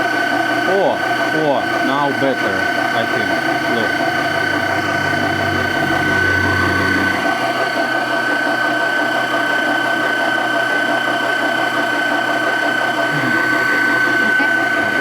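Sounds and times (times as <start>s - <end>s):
electric mixer whining: 0.0s - 15.0s.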